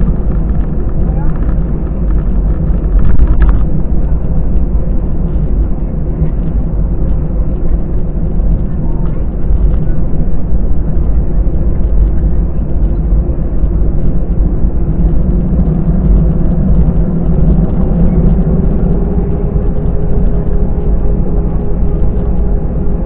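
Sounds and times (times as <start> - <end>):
aircraft engines low rumble: 0.0 - 23.0
faint hum: 0.0 - 23.0.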